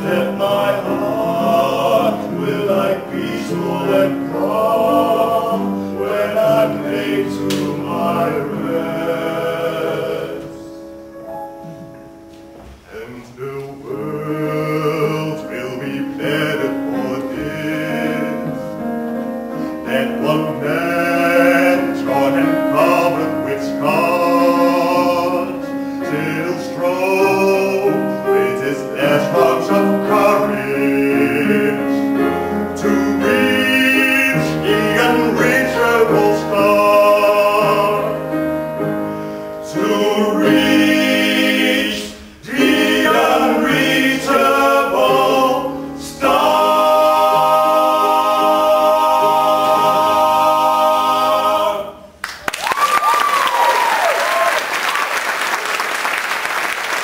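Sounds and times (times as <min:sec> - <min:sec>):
men singing in harmony: 0:00.0 - 0:10.8, 0:12.9 - 0:52.2.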